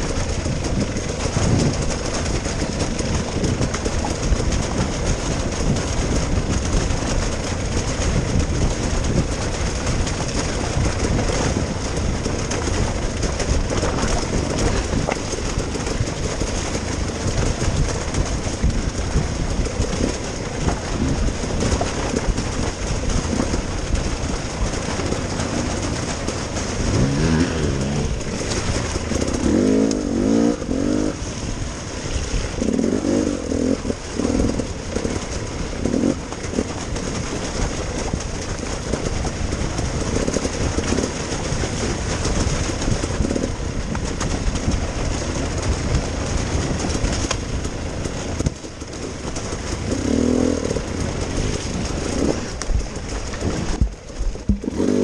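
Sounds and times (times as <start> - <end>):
dirt bike engines revving: 0.0 - 38.2, 44.9 - 55.0
steady rush of noise: 0.0 - 55.0.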